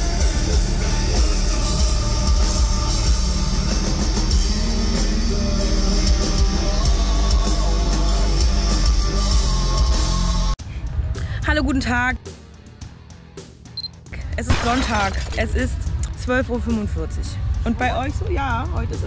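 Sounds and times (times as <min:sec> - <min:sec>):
loud rock music: 0:00.0 - 0:11.2, 0:11.8 - 0:19.0.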